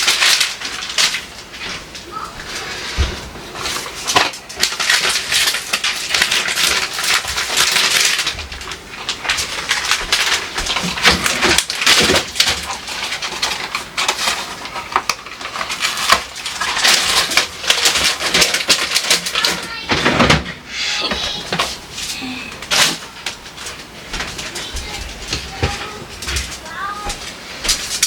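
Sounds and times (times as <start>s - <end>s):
items and shelves clattering: 0.0s - 28.0s.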